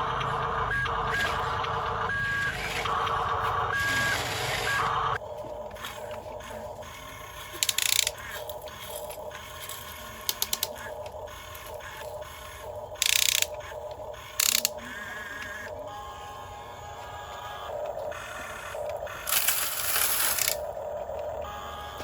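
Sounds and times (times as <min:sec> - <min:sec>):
toy electric motors whirring: 0:00.0 - 0:22.0.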